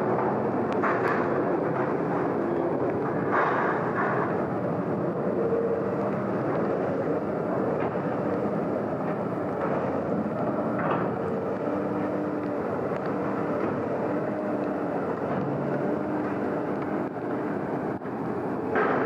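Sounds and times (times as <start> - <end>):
diesel machinery running: 0.0 - 19.0
machinery rattle: 0.0 - 19.0.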